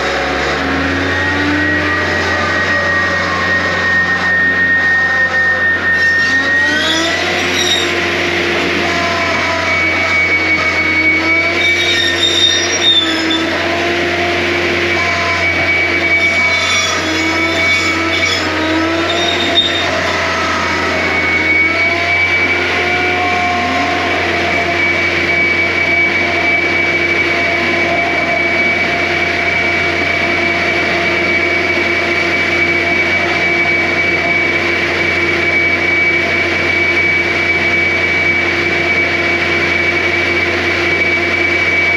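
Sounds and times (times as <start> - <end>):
high whine: 0.0 - 41.9
track loader engine droning: 0.0 - 41.9.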